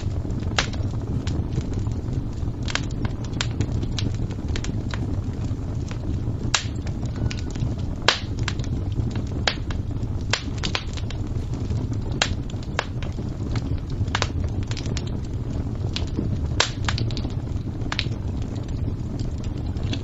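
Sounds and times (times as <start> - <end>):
fire crackling: 0.0 - 20.0
low rumble: 0.0 - 20.0.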